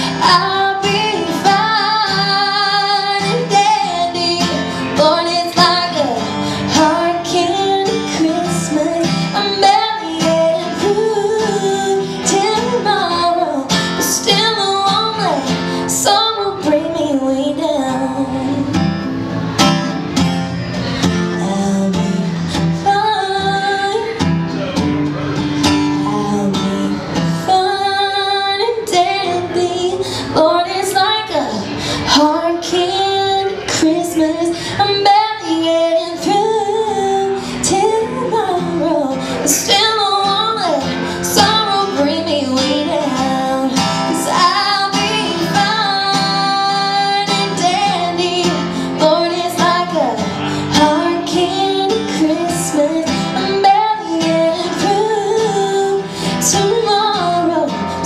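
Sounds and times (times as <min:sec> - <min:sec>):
woman singing: 0:00.0 - 0:19.0, 0:21.0 - 0:24.8, 0:25.7 - 0:58.0
acoustic guitar: 0:00.0 - 0:58.0.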